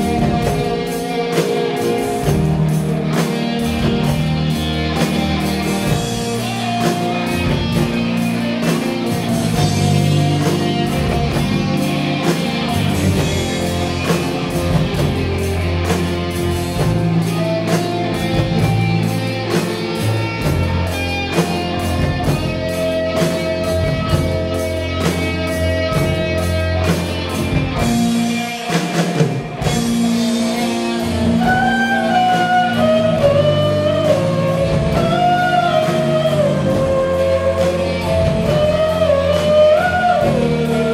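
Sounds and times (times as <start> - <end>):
bass: 0.0 - 40.9
drum kit: 0.0 - 40.9
electric guitars: 0.0 - 40.9
held melody line: 0.0 - 40.9
keyboard: 0.0 - 40.9.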